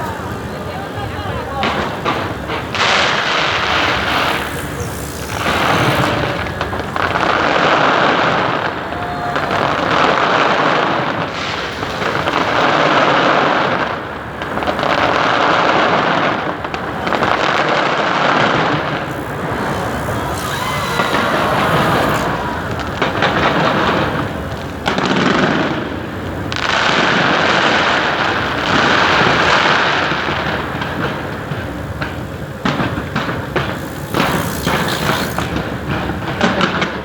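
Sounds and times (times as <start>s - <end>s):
fireworks crackling and booming: 0.0s - 37.0s.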